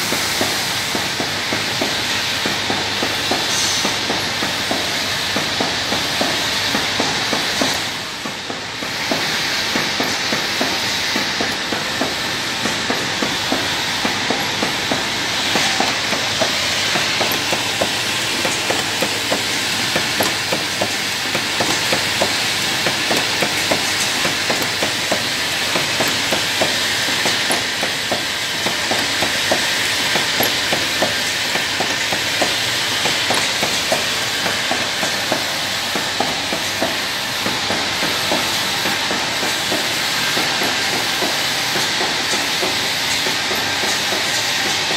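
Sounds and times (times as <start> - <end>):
compressed air hiss: 0.0 - 44.9
machine clacking rhythmically: 0.0 - 44.9.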